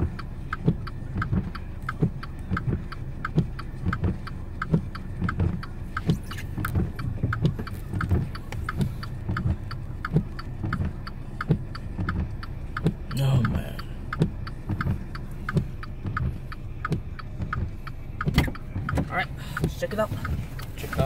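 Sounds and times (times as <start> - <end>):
car engine running: 0.0 - 21.0
quick regular ticking: 0.1 - 21.0.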